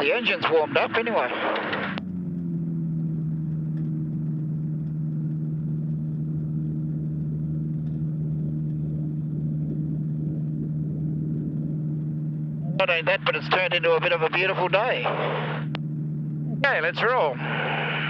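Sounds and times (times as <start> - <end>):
aircraft engine idling: 0.0 - 18.0.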